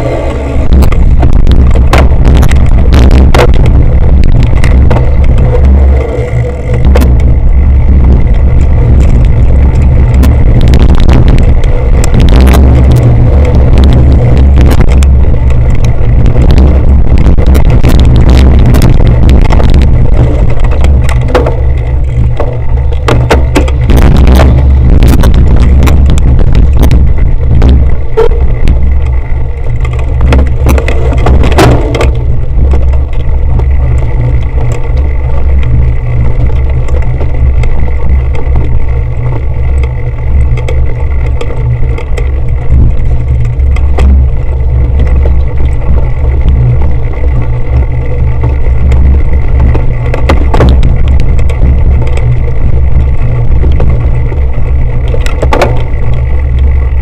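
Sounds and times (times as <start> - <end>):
bike knocks and rattles: 0.0 - 57.0
wind buffeting and frame vibration: 0.0 - 57.0.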